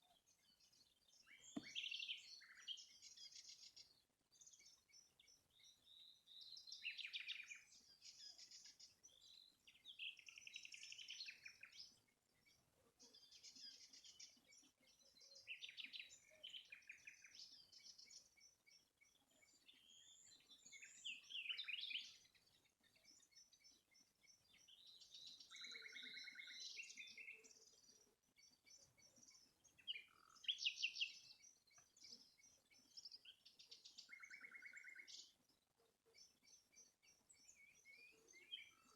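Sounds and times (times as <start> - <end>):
songbirds chirping and warbling: 0.0 - 38.9.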